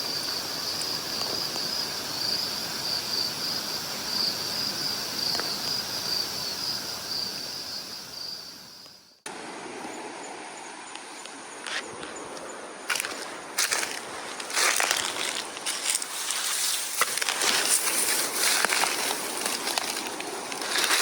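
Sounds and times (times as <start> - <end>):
insects trilling: 0.0 - 9.2, 12.9 - 21.0
outdoor background hiss: 0.0 - 21.0.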